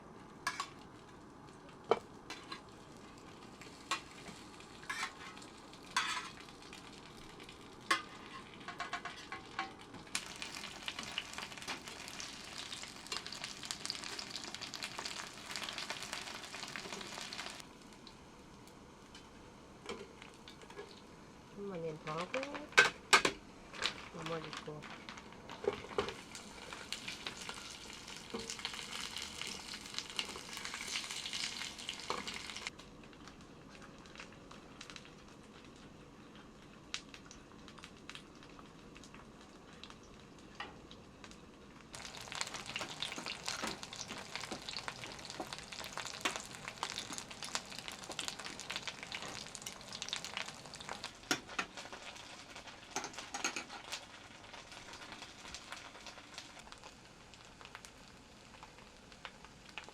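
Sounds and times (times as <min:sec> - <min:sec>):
food sizzling in a pan: 0:00.0 - 0:59.9.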